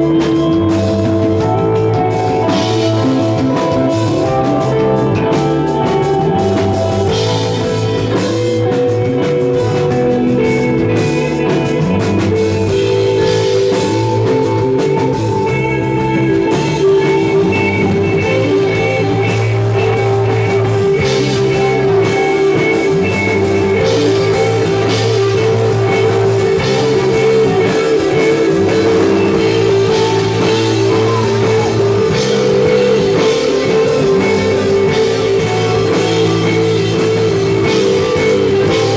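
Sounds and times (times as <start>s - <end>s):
instrumental rock band playing: 0.0s - 38.9s.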